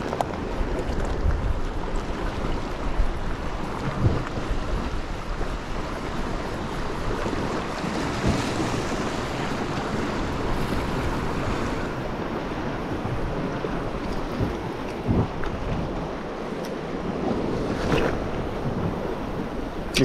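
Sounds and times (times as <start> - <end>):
waves washing over rocks: 0.0 - 20.0
wind buffeting microphone: 0.0 - 20.0.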